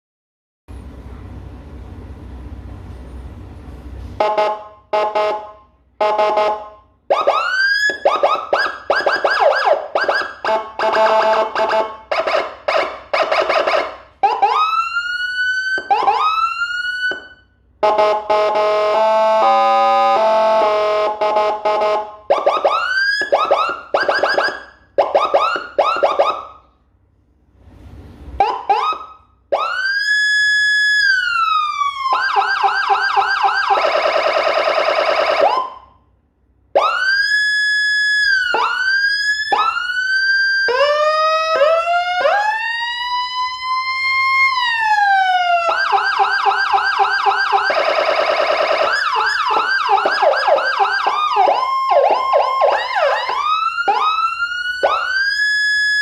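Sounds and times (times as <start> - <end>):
electronic vehicle siren: 4.2 - 26.7, 28.3 - 36.1, 36.7 - 56.0.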